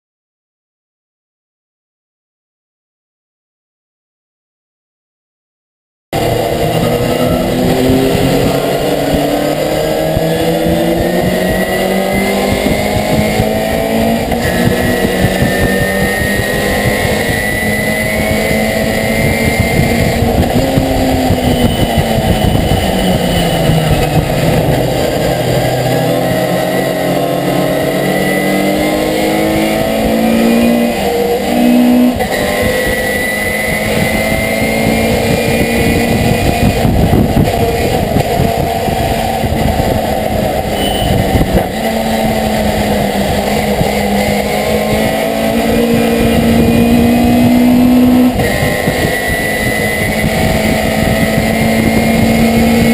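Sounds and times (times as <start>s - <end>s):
road and wind noise: 6.2s - 52.9s
truck engine revving through gears: 6.2s - 52.9s.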